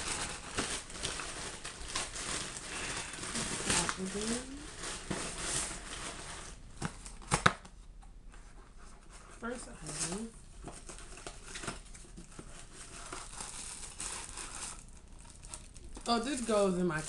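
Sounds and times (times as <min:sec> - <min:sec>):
plastic packaging crinkling: 0:00.0 - 0:07.7, 0:09.4 - 0:17.0.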